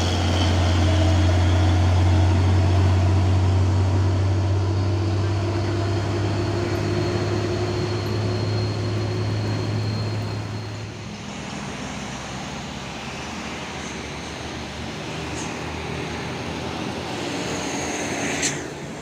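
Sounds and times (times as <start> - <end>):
diesel truck engine labouring: 0.0 - 19.0
traffic rumble: 0.0 - 19.0.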